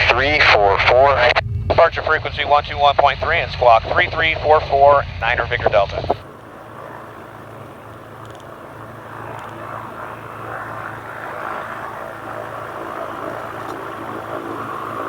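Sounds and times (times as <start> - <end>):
piston aircraft engines idling: 0.0 - 15.0.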